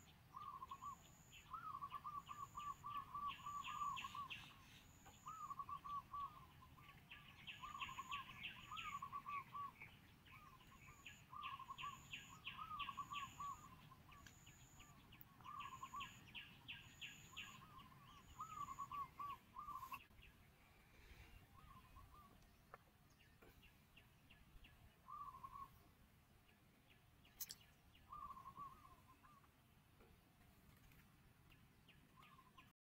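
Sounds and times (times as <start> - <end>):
faint birdsong: 0.0 - 32.8.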